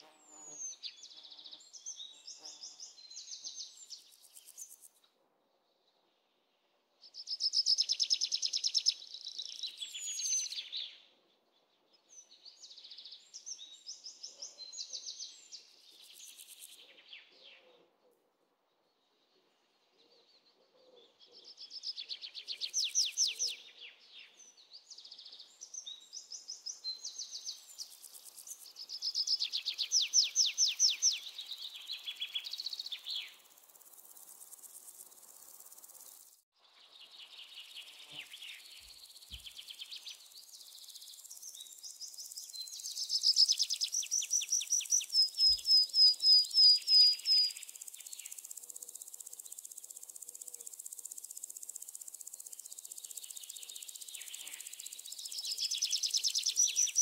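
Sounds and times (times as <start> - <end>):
songbirds chirping and trilling: 5.6 - 57.0.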